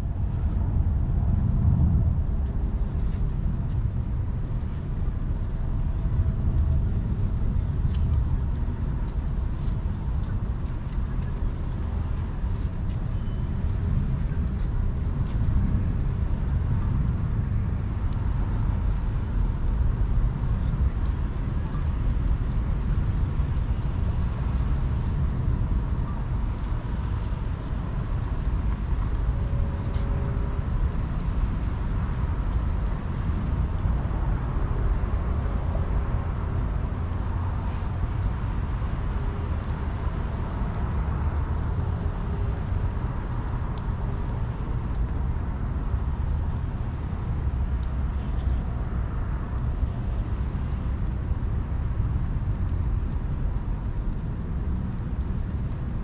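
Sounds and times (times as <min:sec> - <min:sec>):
road traffic hum: 0:00.0 - 0:56.0
wind rumble on microphone: 0:00.0 - 0:56.0.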